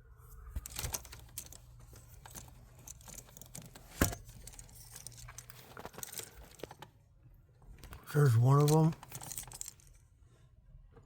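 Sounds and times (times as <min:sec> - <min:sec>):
rustling of handling: 0:00.3 - 0:07.0, 0:07.6 - 0:10.0.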